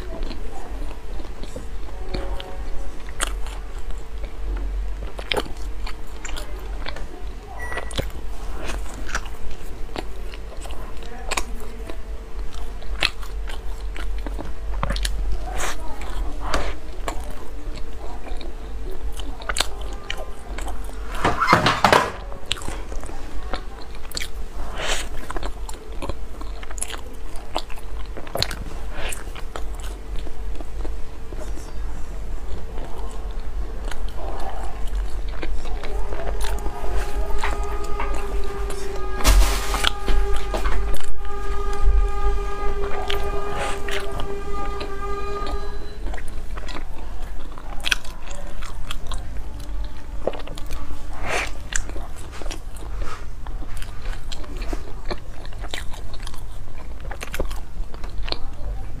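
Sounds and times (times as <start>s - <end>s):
biting and chewing: 0.0s - 59.0s
flaky crust crunching: 0.0s - 59.0s
steady hum: 0.0s - 59.0s.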